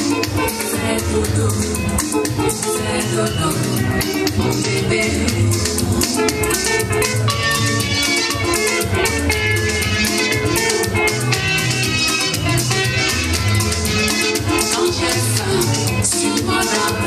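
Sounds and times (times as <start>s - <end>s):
upbeat music: 0.0s - 17.0s.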